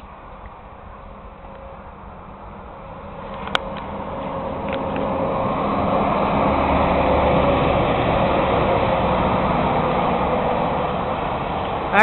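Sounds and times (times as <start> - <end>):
heavy truck engines droning: 0.0 - 12.0
highway traffic roar: 0.0 - 12.0.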